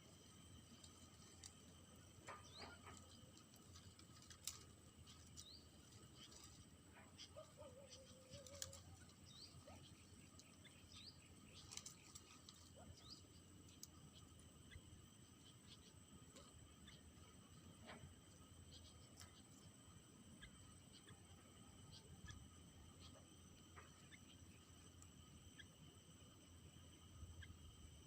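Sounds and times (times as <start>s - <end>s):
background hiss: 0.0s - 28.0s
faint bird chirps: 0.0s - 28.0s.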